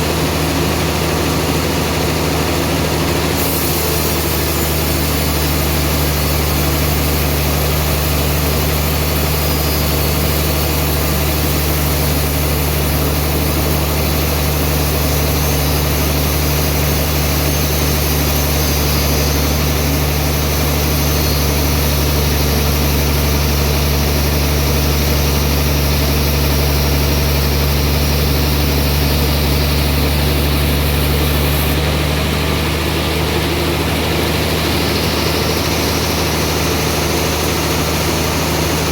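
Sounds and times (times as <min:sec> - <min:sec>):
band sawmill droning: 0:00.0 - 0:38.9.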